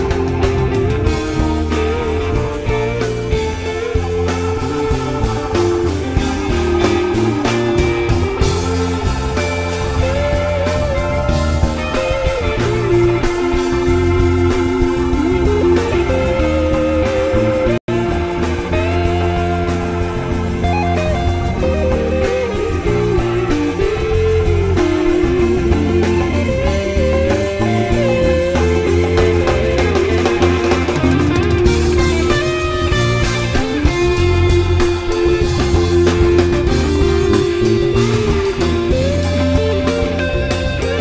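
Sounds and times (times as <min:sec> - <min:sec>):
rock music with electric guitar: 0:00.0 - 0:41.0
steady bass line: 0:00.0 - 0:41.0.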